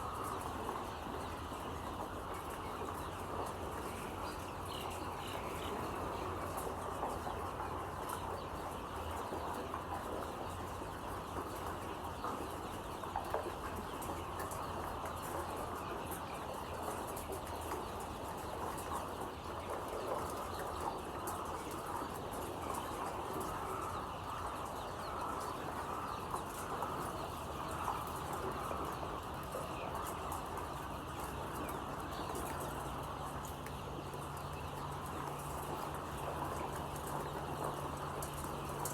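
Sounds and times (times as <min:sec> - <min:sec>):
chickens clucking and peeping: 0:00.0 - 0:38.9.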